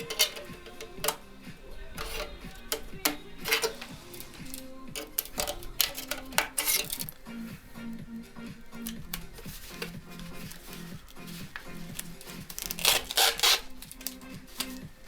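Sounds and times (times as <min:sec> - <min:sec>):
background music with percussive hits: 0:00.0 - 0:15.0.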